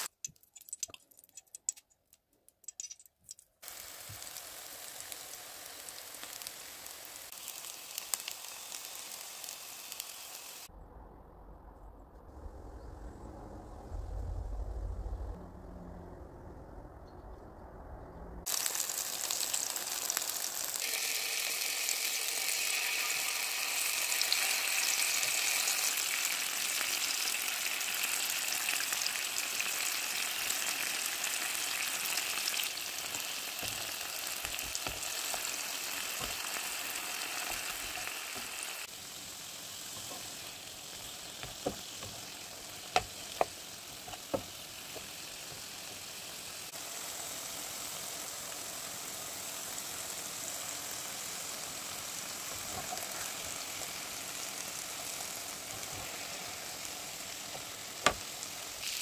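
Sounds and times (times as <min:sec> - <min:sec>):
sauce sizzling in oil: 0:00.0 - 0:01.4, 0:03.6 - 0:10.7, 0:18.5 - 0:59.0.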